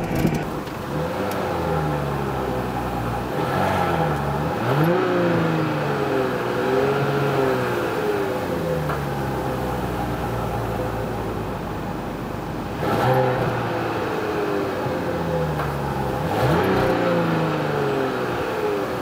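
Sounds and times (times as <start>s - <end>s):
car engine revving: 0.0s - 12.0s, 12.6s - 19.0s.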